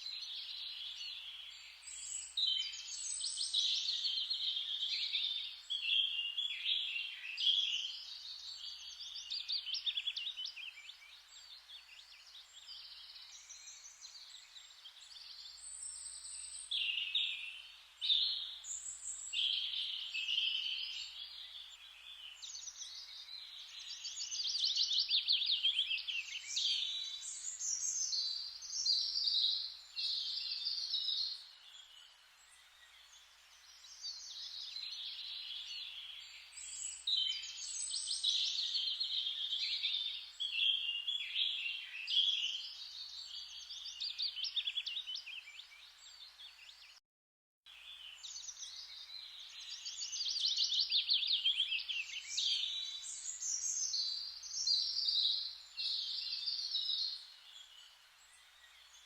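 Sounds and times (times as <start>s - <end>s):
songbirds chirping: 0.0s - 47.0s, 47.7s - 59.0s.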